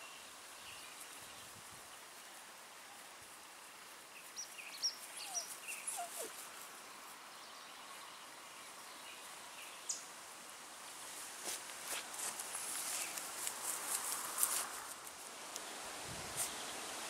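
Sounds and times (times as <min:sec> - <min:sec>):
breeze through grass: 0:00.0 - 0:17.0.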